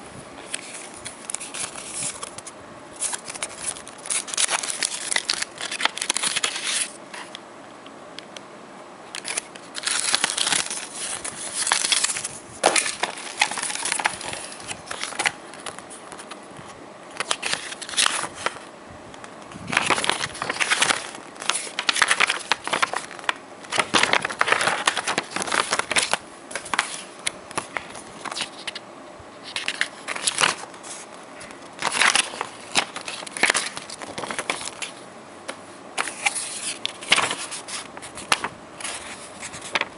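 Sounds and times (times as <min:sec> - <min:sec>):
paper rustling and crinkling: 0:00.4 - 0:07.4, 0:09.2 - 0:18.7, 0:19.5 - 0:28.8, 0:29.4 - 0:39.9.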